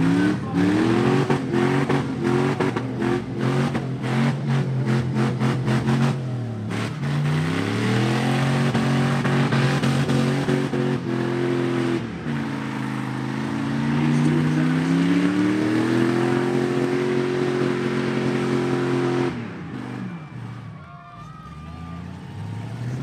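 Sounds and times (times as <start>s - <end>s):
truck engine revving: 0.0s - 20.8s, 21.5s - 23.0s.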